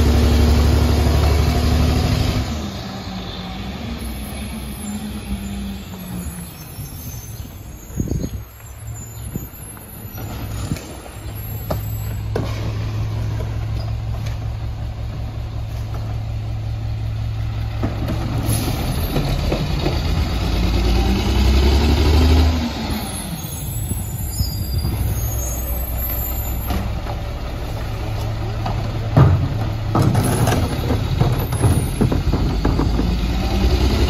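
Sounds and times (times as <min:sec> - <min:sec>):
diesel truck engine idling and revving: 0:00.0 - 0:34.0.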